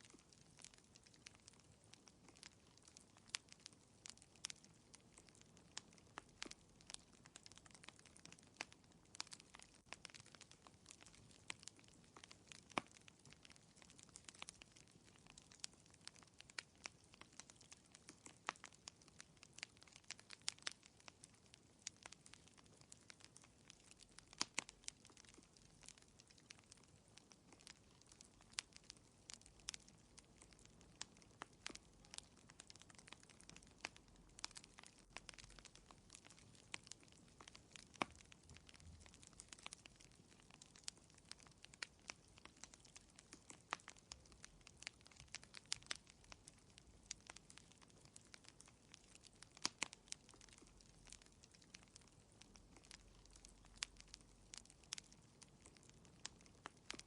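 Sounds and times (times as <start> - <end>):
faint steady hiss: 0.0 - 57.0
wood fire crackling: 0.0 - 57.0.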